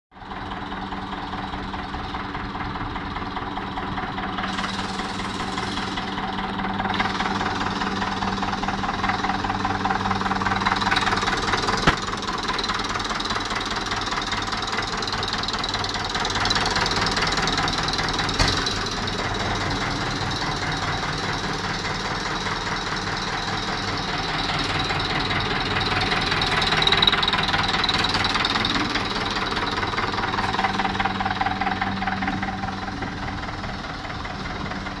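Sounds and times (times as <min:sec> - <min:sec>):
tractor diesel engine idling: 0:00.1 - 0:35.0.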